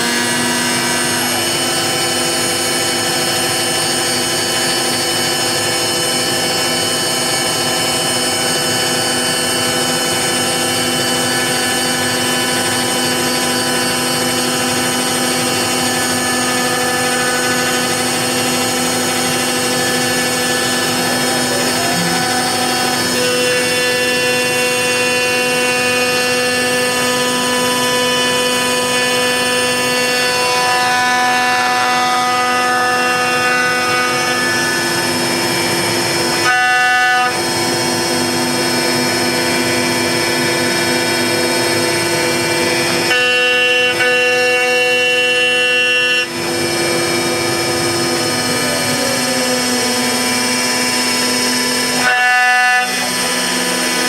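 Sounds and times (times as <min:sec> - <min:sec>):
cnc router high whine: 0:00.0 - 0:54.0
rushing cutting noise: 0:00.0 - 0:54.0.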